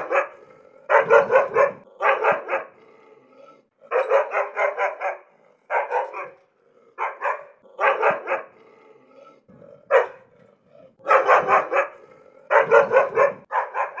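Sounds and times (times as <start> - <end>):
dog barking angrily: 0.0 - 14.0.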